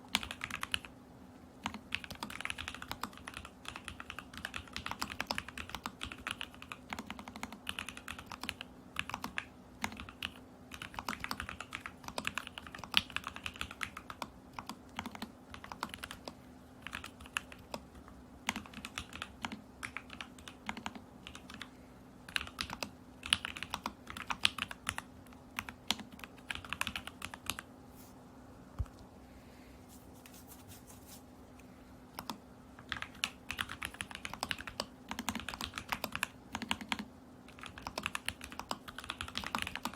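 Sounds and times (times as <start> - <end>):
mechanical keyboard typing: 0.1 - 0.9, 1.6 - 21.7, 22.3 - 27.7, 32.2 - 39.9.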